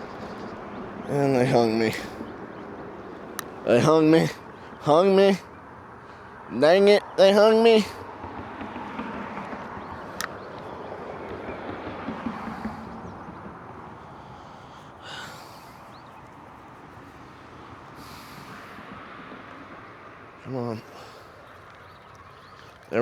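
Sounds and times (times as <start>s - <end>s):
road traffic noise: 0.0s - 23.0s
vehicle passing: 0.0s - 23.0s.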